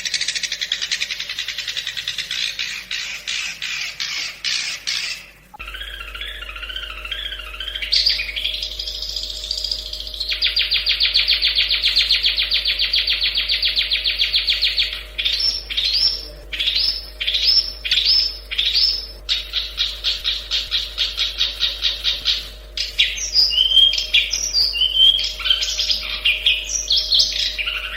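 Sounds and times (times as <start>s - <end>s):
shrike singing chattering notes: 0.0s - 27.9s.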